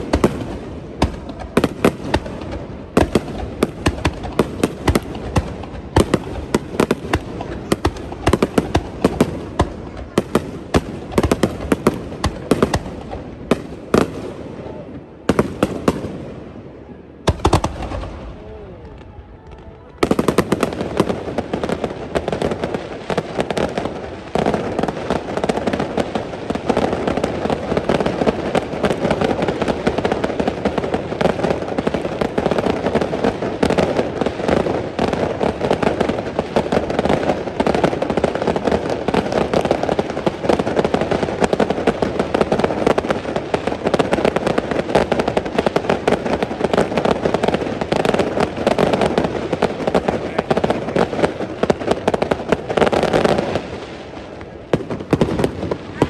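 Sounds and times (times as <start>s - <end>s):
firework booms: 0.0s - 56.0s
firework crackle: 0.0s - 56.0s.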